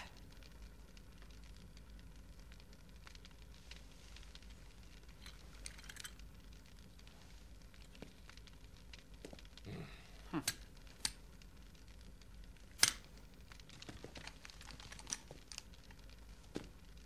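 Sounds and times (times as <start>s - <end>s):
low steady hum: 0.0s - 17.0s
sharp clicks and crackles: 0.0s - 17.0s.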